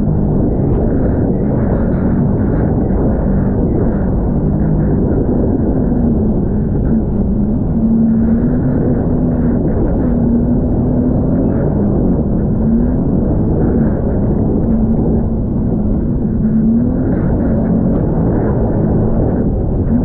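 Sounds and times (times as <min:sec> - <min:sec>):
personal watercraft engine: 0:00.0 - 0:20.0
wind buffeting microphone: 0:00.0 - 0:20.0.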